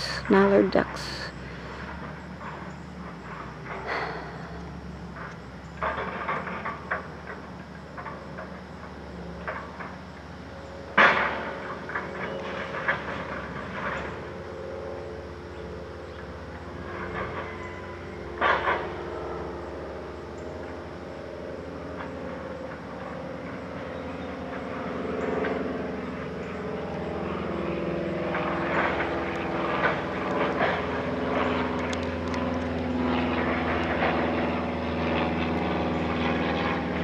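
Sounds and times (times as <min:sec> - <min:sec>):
propeller airplane droning: 0:00.0 - 0:37.0.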